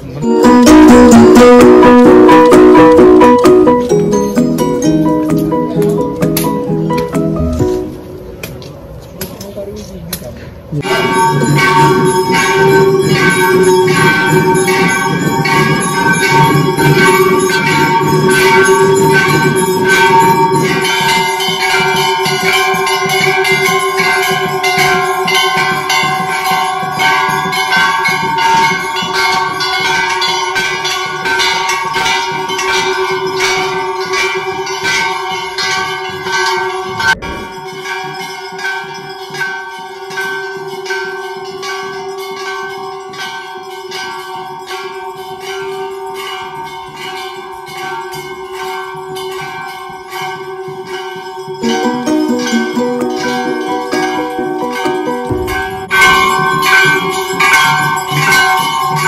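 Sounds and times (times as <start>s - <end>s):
temple bells rung rapidly: 0.0s - 8.2s, 10.8s - 59.0s.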